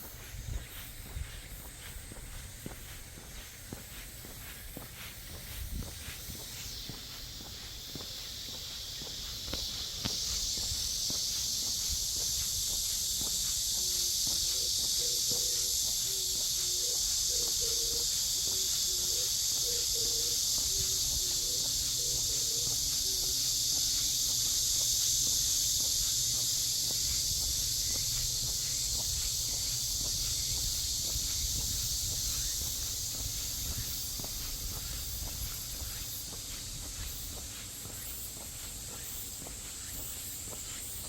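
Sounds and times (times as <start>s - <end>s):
footsteps on a path: 0.0s - 41.0s
high-pitched insect drone: 0.0s - 41.0s.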